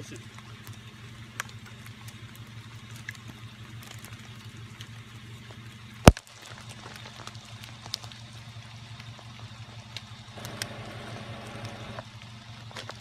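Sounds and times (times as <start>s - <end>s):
low electrical hum: 0.0s - 13.0s
rain falling: 0.0s - 13.0s.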